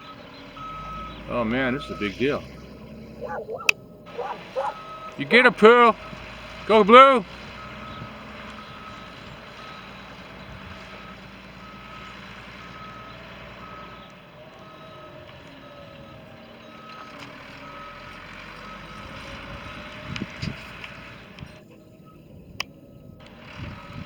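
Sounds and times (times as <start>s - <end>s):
truck engine running: 0.0s - 24.0s
truck reversing alarm beeping: 0.0s - 24.0s.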